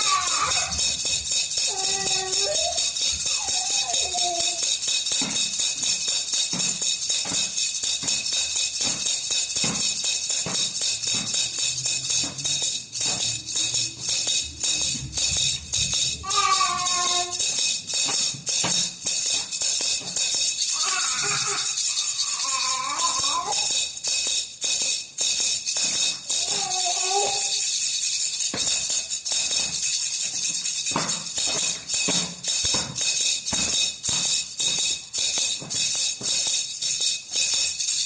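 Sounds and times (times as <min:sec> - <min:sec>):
baby rattle jingling: 0:00.0 - 0:38.0.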